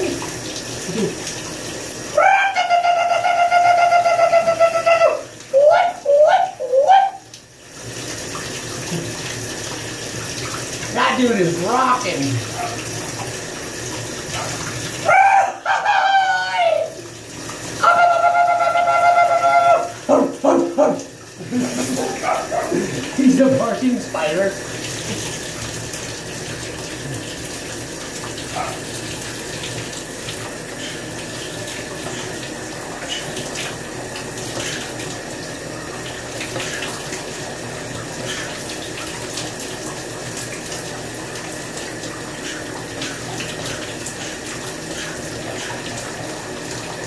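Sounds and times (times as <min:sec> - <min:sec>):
shower water splashing on tub: 0:00.0 - 0:47.0.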